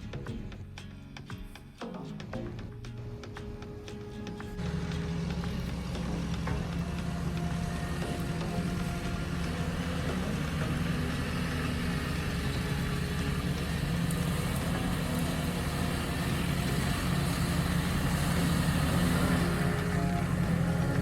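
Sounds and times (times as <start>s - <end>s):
vehicle engine running at low revs: 2.8s - 21.0s.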